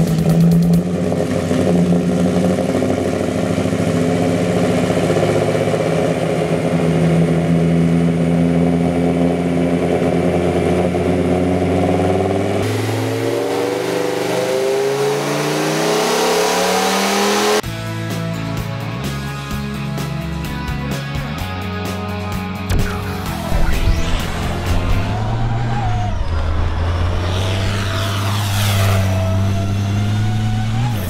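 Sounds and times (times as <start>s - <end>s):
car engine revving on a dyno: 0.0s - 17.6s, 23.6s - 31.0s.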